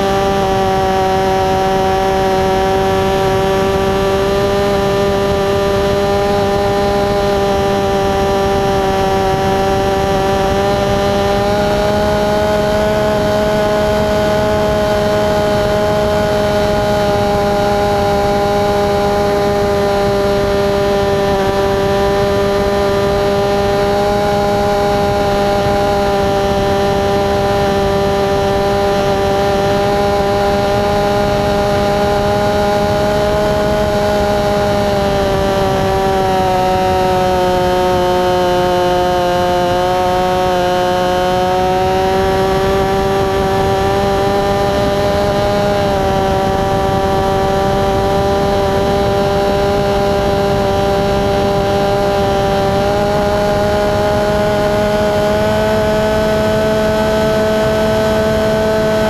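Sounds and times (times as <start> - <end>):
model plane motor and propeller droning: 0.0 - 59.0.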